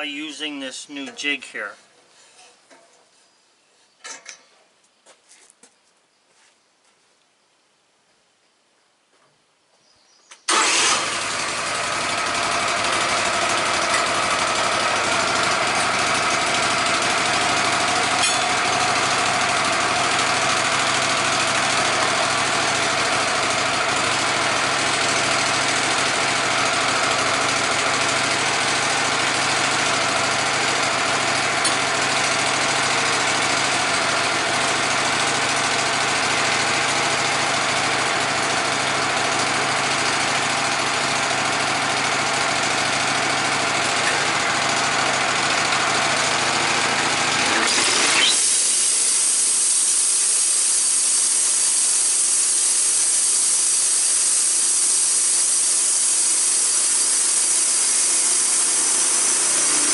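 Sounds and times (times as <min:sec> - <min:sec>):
sawmill engine starting and running: 0:00.0 - 0:01.7, 0:10.4 - 0:59.9.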